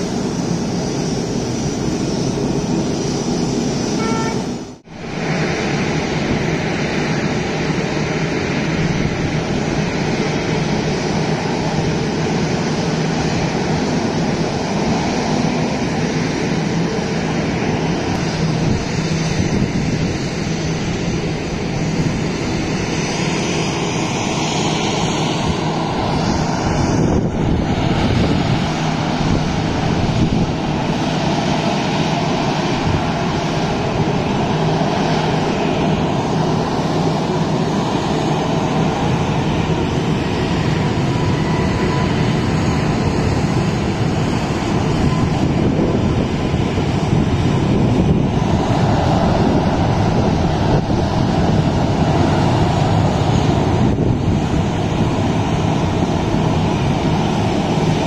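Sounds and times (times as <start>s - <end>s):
airliner engines running: 0.0s - 58.0s
high engine whine rising: 0.0s - 58.0s.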